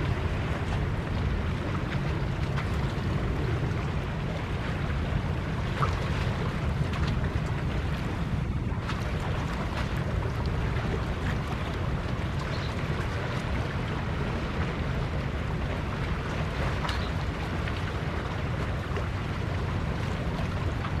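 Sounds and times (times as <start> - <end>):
sea water washing against rocks: 0.0 - 21.0
wind buffeting microphone: 0.0 - 21.0.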